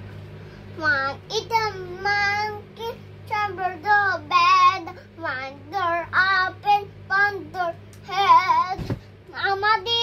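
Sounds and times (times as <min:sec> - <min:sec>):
faint low hum: 0:00.0 - 0:10.0
girl singing: 0:00.8 - 0:10.0.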